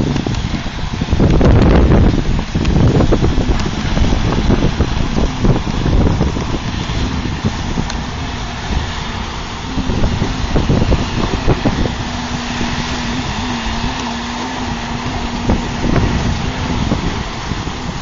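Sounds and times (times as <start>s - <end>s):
steady low hum: 0.0s - 18.0s
wind buffeting microphone: 0.0s - 18.0s.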